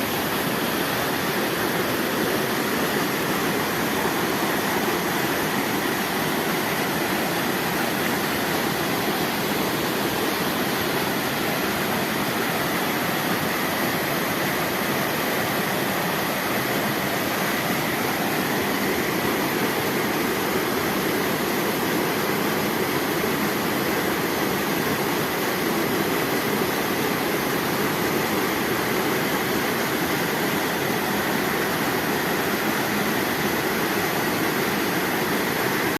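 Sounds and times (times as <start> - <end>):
waterfall roaring: 0.0 - 35.9.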